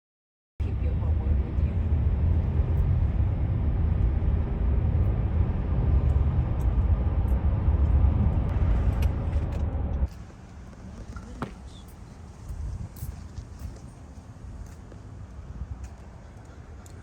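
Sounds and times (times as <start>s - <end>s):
vehicle interior rumble: 0.6s - 16.7s.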